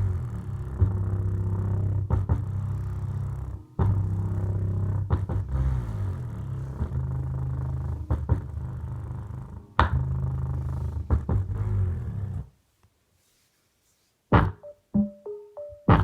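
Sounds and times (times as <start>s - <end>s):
deep bass notes: 0.0s - 12.4s, 14.4s - 16.0s.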